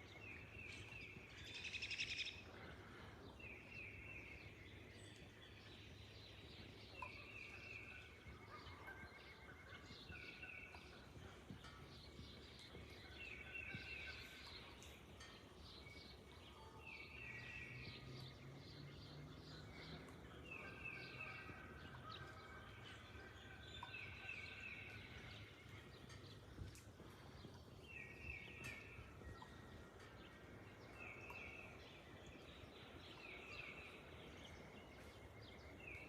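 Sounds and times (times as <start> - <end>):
bird chirps: 0.0 - 36.0.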